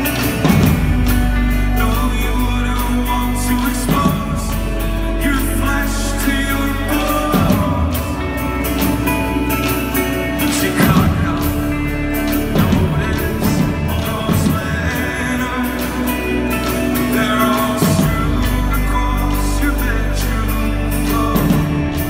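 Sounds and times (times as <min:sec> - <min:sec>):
folk-rock band playing live: 0:00.0 - 0:22.0
person singing: 0:00.0 - 0:22.0.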